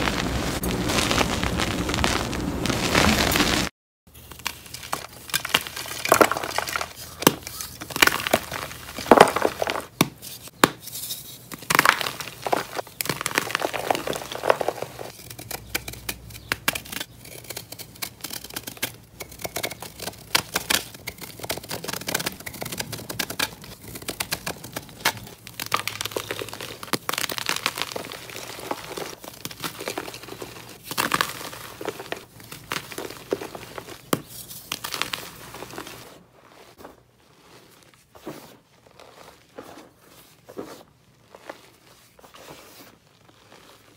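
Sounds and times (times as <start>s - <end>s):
chalk crumbling and crackling: 0.0s - 43.9s.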